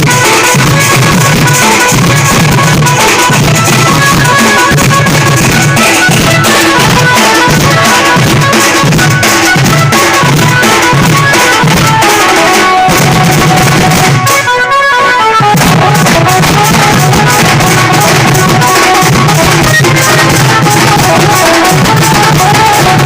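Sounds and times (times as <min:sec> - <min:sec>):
band melody: 0:00.0 - 0:23.0
drum beat: 0:00.0 - 0:23.0.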